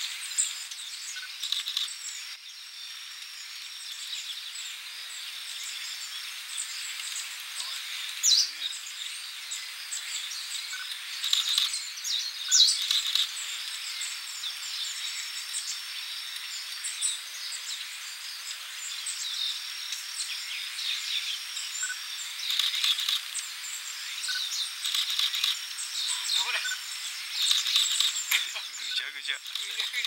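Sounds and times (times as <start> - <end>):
high insect buzz: 0.0 - 30.0
songbirds chirping and twittering: 0.0 - 30.0.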